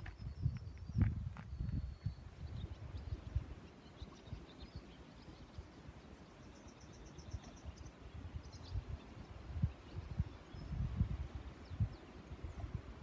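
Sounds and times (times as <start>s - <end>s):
wind buffeting microphone: 0.0s - 6.1s, 7.3s - 13.0s
small birds chirping: 0.0s - 13.0s.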